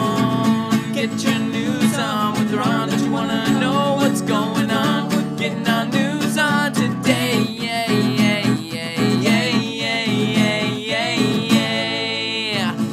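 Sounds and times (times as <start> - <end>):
acoustic guitar song with singing: 0.0 - 12.9.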